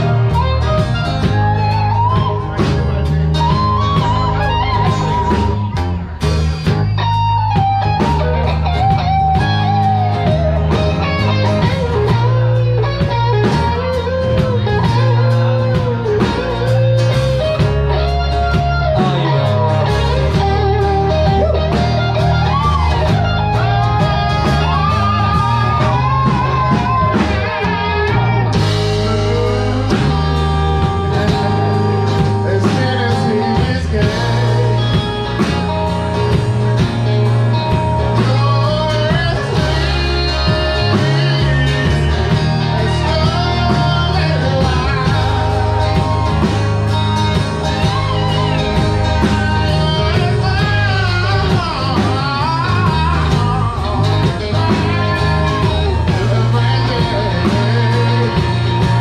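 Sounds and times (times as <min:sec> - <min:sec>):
electric guitar lead line: 0:00.0 - 0:59.0
live rock band playing: 0:00.0 - 0:59.0.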